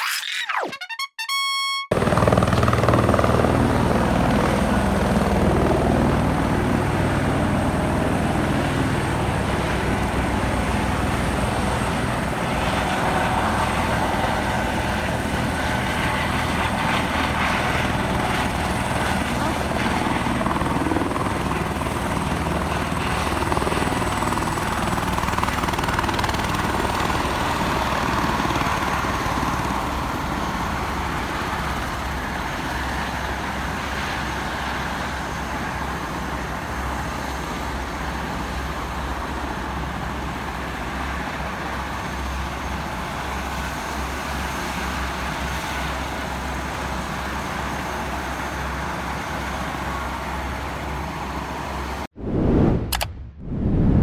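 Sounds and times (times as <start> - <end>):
helicopter rotor and engine: 1.9 - 52.1.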